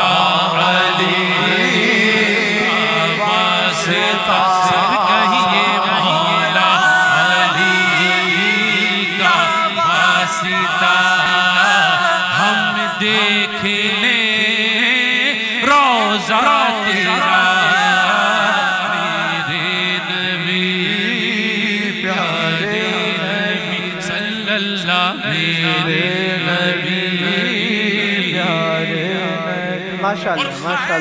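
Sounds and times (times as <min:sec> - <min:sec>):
men singing devotional song: 0:00.0 - 0:31.0.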